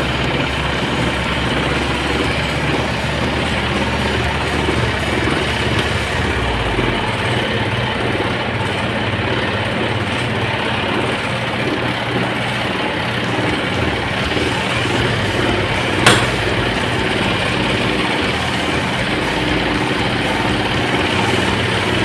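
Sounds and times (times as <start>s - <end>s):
electric fan motor whirring: 0.0s - 22.0s.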